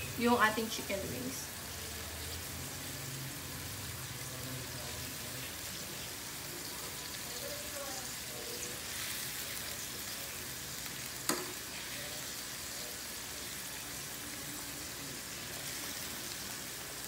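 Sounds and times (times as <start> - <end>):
sauce sizzling and bubbling: 0.0 - 17.0.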